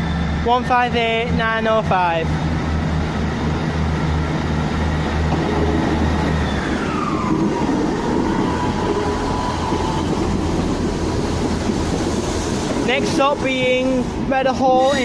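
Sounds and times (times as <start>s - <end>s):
train diesel engines droning: 0.0s - 15.0s
train whine gliding down: 0.0s - 15.0s.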